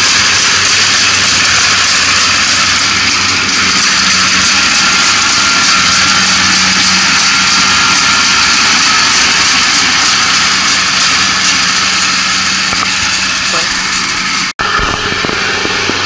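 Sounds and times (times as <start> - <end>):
combine harvester engine hum: 0.0 - 16.0
rushing harvesting machinery: 0.0 - 16.0.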